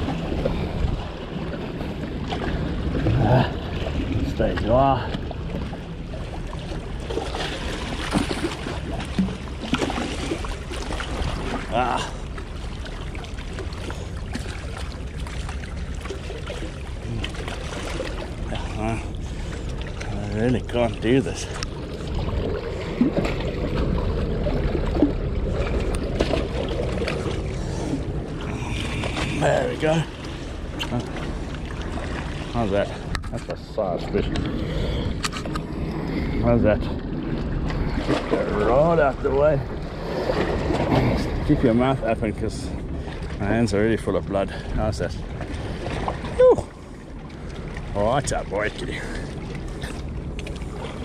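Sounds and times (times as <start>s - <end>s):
steady low rumble: 0.0s - 51.0s
waves lapping over rocks: 0.0s - 51.0s.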